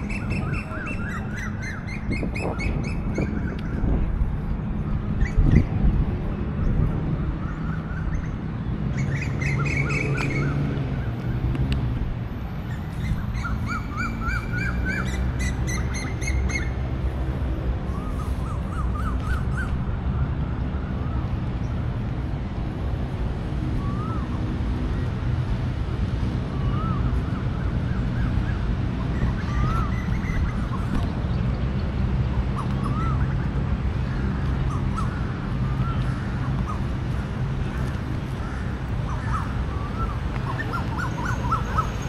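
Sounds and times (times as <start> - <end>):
birds calling: 0.0 - 4.1, 6.6 - 21.9, 26.4 - 42.0.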